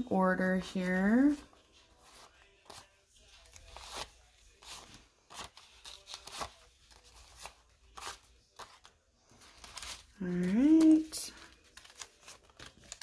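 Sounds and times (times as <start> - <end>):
banknotes rustling: 0.4 - 13.0.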